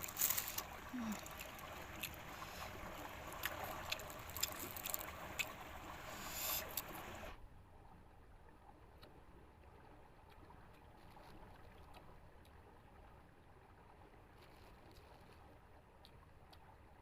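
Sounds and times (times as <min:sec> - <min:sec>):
faint low outdoor rumble: 0:00.0 - 0:17.0.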